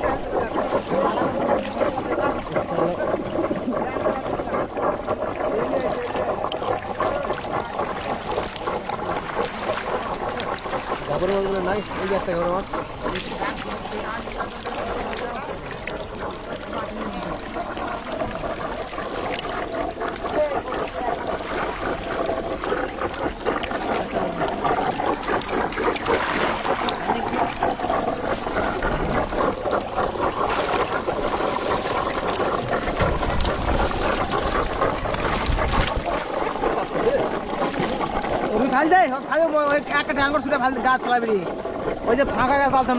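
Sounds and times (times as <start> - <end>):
fish splashing in shallow water: 0.0 - 42.9.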